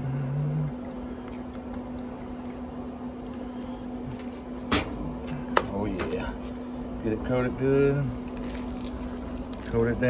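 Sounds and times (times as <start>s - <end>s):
pellet grill humming: 0.0s - 10.0s.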